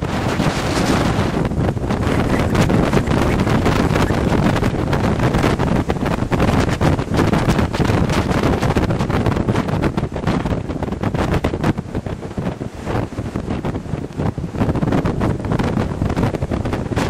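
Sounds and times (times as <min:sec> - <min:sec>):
surf: 0:00.0 - 0:17.0
wind buffeting microphone: 0:00.0 - 0:17.0.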